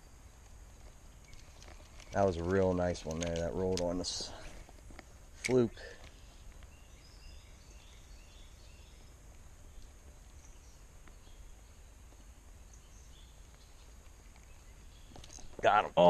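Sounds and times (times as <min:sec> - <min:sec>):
small bird chirping: 0:00.0 - 0:04.2, 0:05.6 - 0:16.0.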